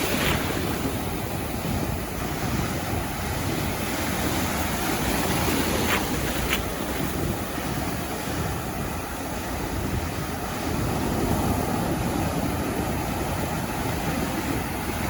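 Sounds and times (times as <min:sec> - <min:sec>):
ocean waves breaking on beach: 0:00.0 - 0:15.0
wind buffeting microphone: 0:00.0 - 0:15.0.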